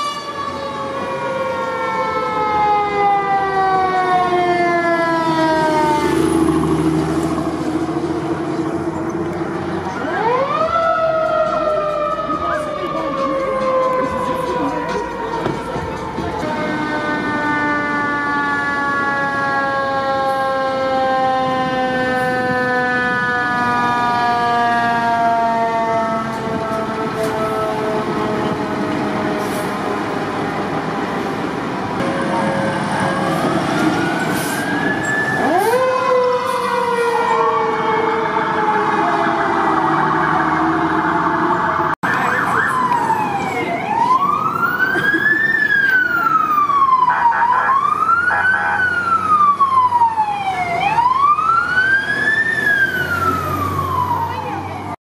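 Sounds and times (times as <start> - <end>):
electronic wail siren: 0.0 - 6.6, 9.9 - 30.8, 32.0 - 55.0.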